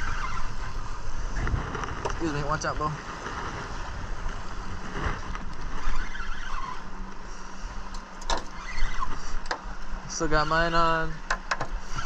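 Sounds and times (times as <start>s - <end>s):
outboard motor idling: 0.0s - 12.0s
wind rumble on microphone: 0.0s - 12.0s.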